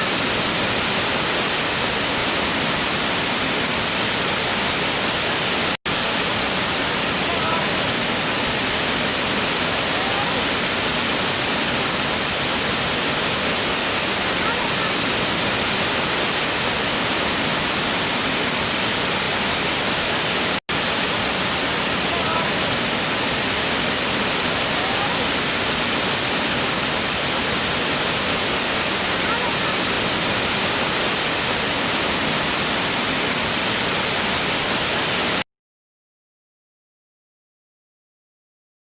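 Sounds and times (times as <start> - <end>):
waterfall rushing: 0.0 - 35.4.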